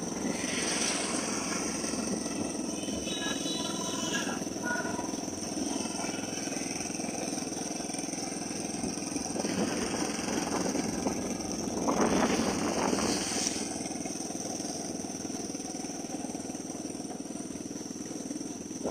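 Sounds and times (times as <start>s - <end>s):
motorcycle engine running: 0.0s - 18.9s
road and wind noise: 0.0s - 18.9s.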